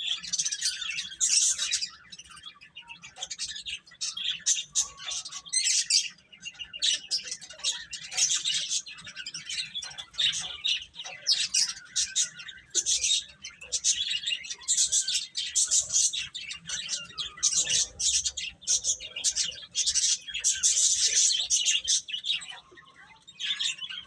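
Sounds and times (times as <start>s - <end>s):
baby chicks peeping: 0.0s - 24.0s.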